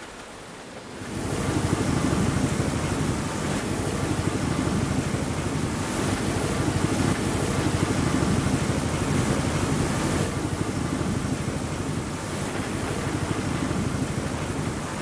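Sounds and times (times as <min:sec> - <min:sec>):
waves breaking on rough sea: 0:00.0 - 0:15.0
wind buffeting microphone: 0:00.9 - 0:15.0.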